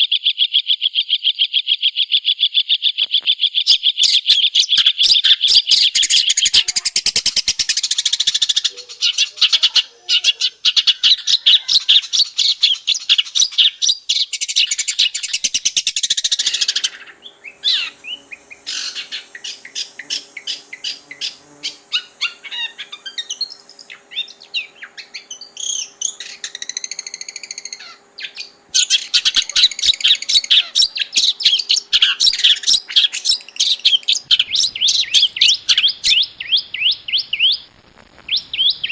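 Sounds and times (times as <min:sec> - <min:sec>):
bird chattering song: 0:00.0 - 0:37.7, 0:38.3 - 0:38.9
bird whistles and chirps: 0:01.8 - 0:09.7, 0:10.3 - 0:37.7, 0:38.3 - 0:38.9.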